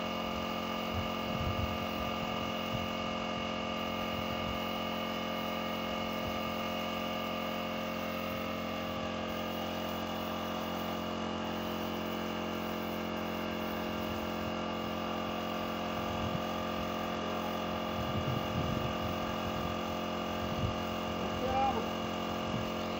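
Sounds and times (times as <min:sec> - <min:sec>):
air compressor running: 0:00.0 - 0:22.9.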